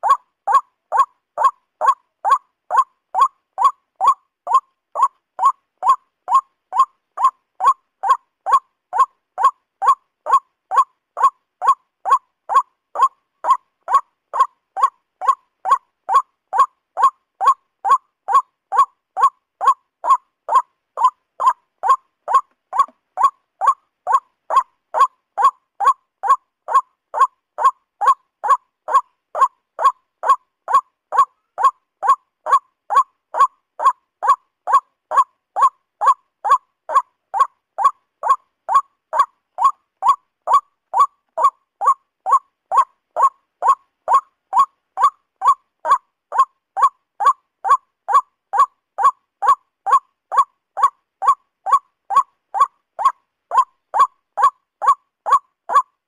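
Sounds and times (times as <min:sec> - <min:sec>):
waterhen calling: 0:00.0 - 0:55.9.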